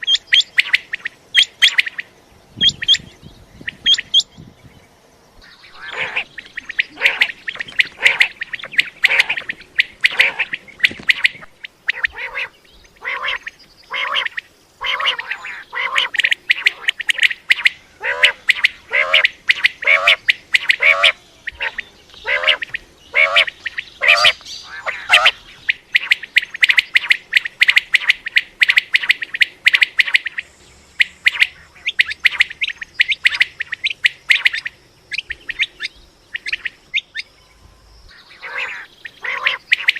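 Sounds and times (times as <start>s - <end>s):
quail calling: 0.0s - 3.1s, 5.4s - 30.4s, 31.0s - 37.3s, 38.1s - 39.9s.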